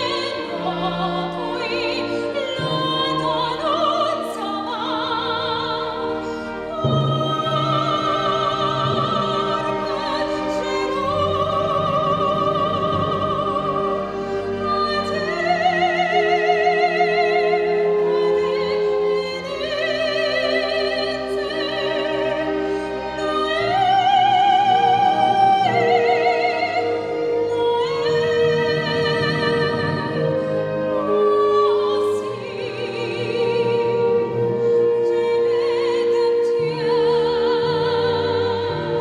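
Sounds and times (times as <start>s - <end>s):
sustained accompaniment: 0.0s - 39.0s.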